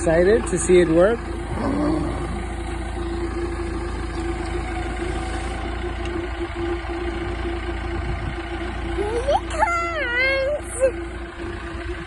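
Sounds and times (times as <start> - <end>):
excavator engine idling: 0.0 - 12.0.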